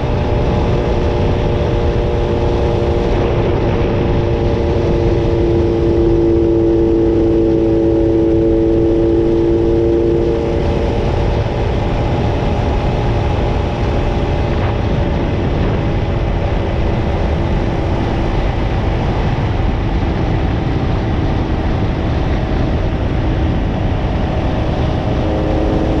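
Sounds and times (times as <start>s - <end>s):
motorcycle engine cruising: 0.0s - 26.0s
wind rush on microphone: 0.0s - 26.0s.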